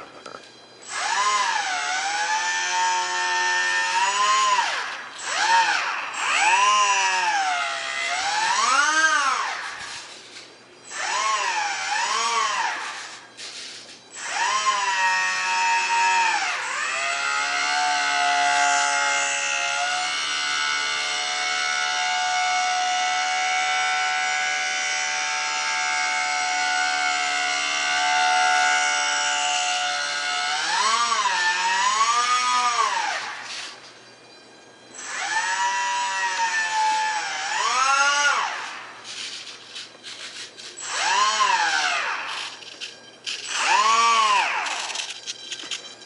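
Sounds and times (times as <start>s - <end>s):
small electric motor whining: 0.0s - 46.0s.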